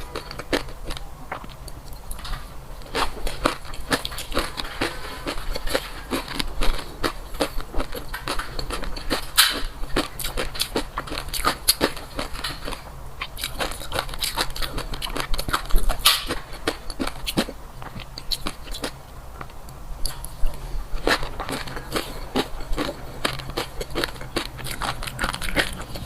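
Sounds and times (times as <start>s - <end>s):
wet crunching and chewing: 0.0s - 26.0s.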